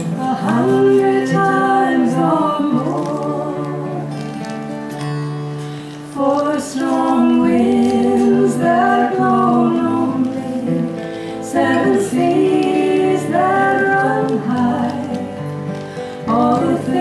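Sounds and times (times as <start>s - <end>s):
women singing in harmony: 0.0s - 4.4s, 6.0s - 17.0s
strummed acoustic guitars: 0.0s - 17.0s.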